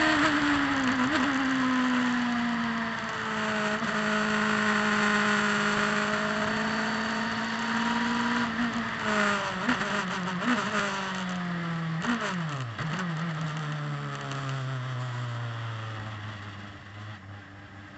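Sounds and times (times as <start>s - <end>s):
wind and road noise: 0.0s - 17.9s.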